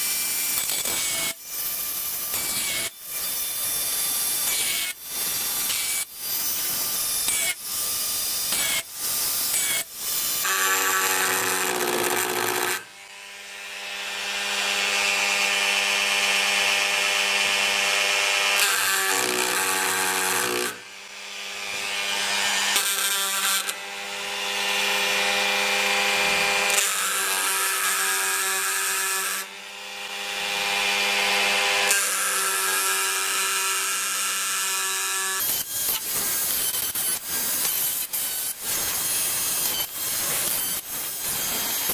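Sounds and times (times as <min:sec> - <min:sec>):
rotary tool cutting wood: 0:00.0 - 0:41.9.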